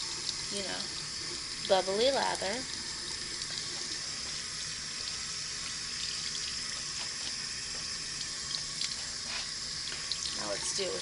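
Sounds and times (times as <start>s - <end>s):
water running from tap into sink: 0.0s - 11.0s.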